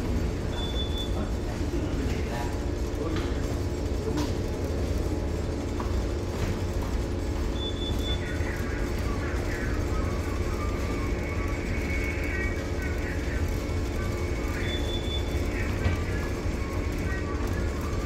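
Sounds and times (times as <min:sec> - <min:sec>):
ship engine low rumble: 0:00.0 - 0:18.0.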